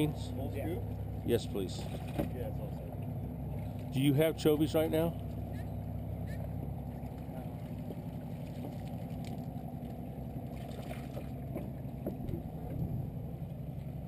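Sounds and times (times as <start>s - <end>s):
low motor hum: 0.0s - 14.0s
water splashes: 0.7s - 5.6s, 6.2s - 14.0s.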